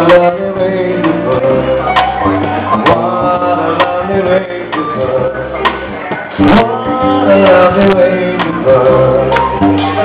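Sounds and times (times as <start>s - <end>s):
jazz band playing slowly: 0.0s - 10.0s.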